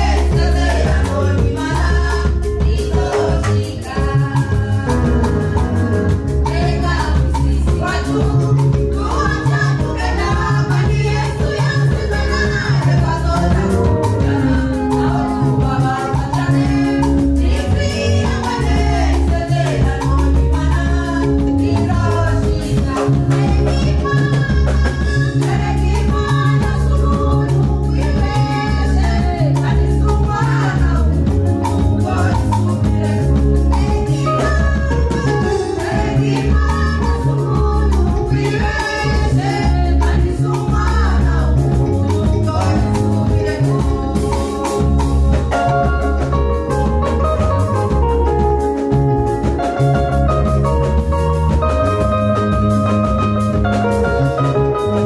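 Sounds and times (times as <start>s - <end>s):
women's choir singing: 0.0s - 24.2s, 25.0s - 46.3s
amplified accompaniment with bass: 0.0s - 55.0s.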